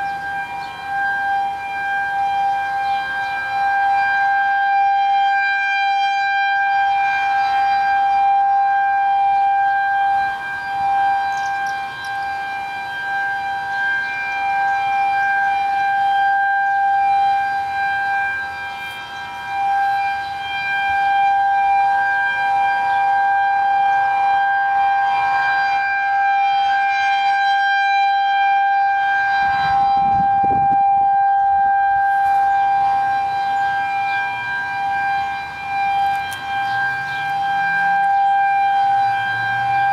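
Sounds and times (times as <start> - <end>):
distant civil defense sirens: 0.0 - 39.9
rotating warning siren wailing: 0.0 - 39.9.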